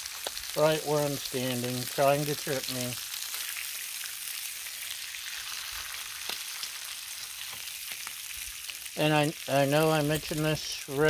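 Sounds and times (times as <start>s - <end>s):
bacon sizzling on a griddle: 0.0s - 11.0s.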